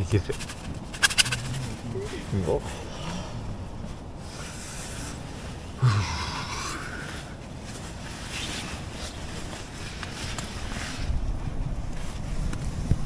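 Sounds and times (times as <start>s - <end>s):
strong mountain wind gusting: 0.0s - 13.0s.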